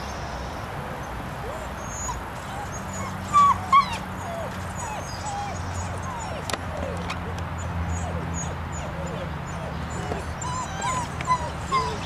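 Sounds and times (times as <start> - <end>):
puppy whining and whimpering: 1.4 - 12.0
puppy yips: 1.8 - 12.0.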